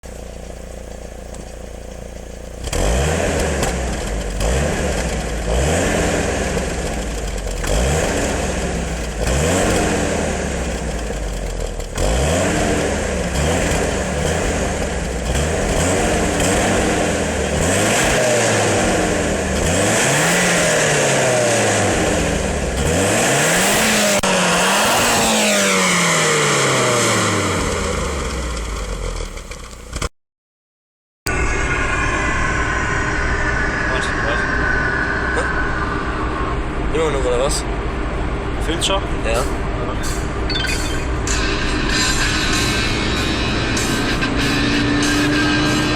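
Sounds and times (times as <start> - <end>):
car engine revving: 0.7 - 30.1, 31.3 - 45.9.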